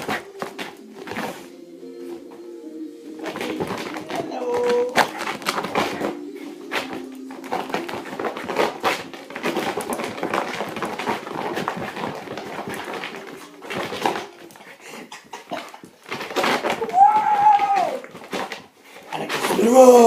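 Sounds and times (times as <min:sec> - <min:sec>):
dog claws clicking and scuffing: 0:03.2 - 0:19.6.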